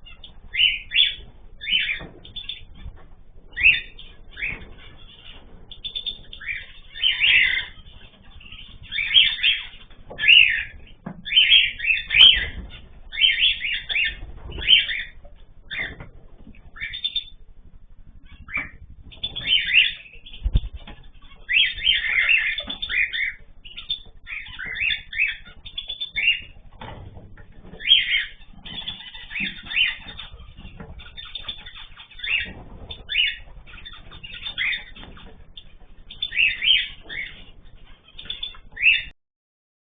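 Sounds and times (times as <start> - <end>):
cage birds chirping: 0.0 - 39.2.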